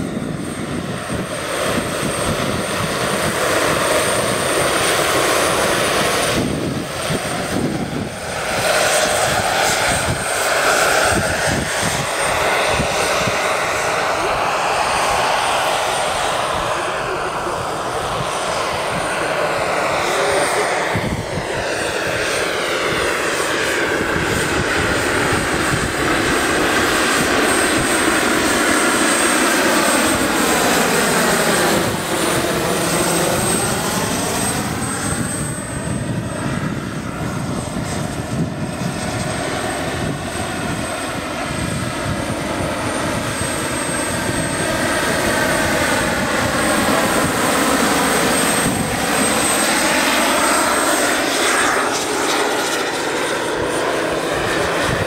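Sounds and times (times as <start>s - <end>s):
helicopter rotor noise: 0.0s - 55.0s
model helicopter turbine whine: 0.0s - 55.0s.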